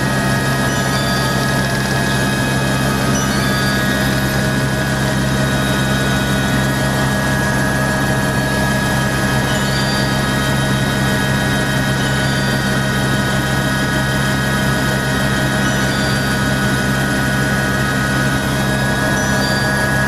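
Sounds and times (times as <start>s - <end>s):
helicopter engine and rotor drone: 0.0s - 20.0s
steady whining tones: 0.0s - 20.0s.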